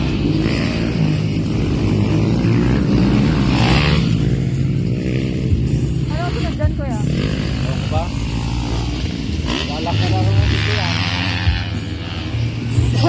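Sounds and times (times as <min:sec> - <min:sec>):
dirt bike engines racing: 0:00.0 - 0:13.0.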